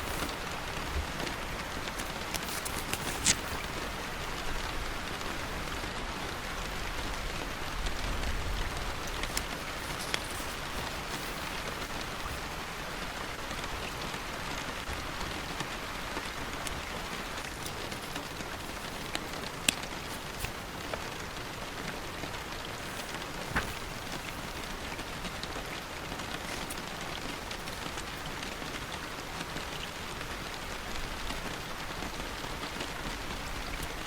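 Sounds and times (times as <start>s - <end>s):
rain pattering on a surface: 0.0s - 34.0s.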